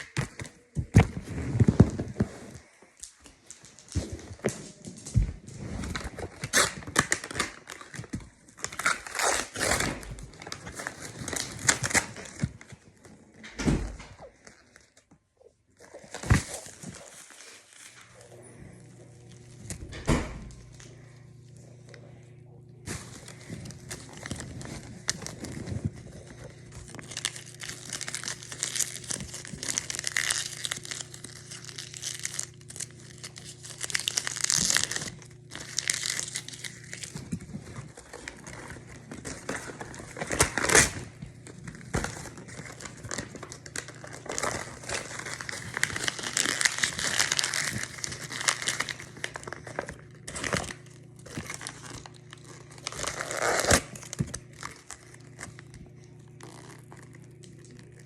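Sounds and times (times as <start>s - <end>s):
crinkly material crumpling: 0.0s - 13.5s, 14.1s - 19.8s, 20.5s - 58.0s
faint low hum: 0.0s - 58.0s.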